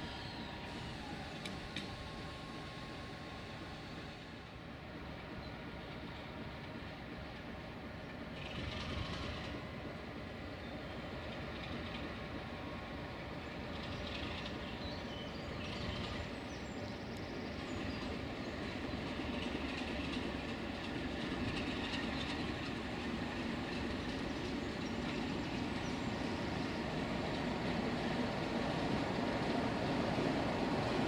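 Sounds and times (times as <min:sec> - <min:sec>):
diesel locomotive rumbling: 0:00.0 - 0:31.0
train wheels on rails: 0:00.0 - 0:31.0.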